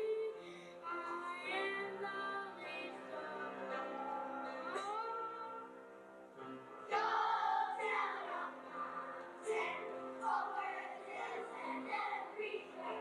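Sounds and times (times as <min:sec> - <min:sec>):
children's choir singing: 0:00.0 - 0:05.7, 0:06.9 - 0:13.0.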